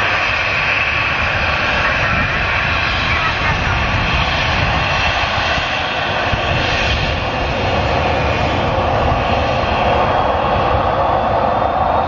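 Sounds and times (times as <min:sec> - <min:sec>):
jet engines at take-off: 0:00.0 - 0:12.0.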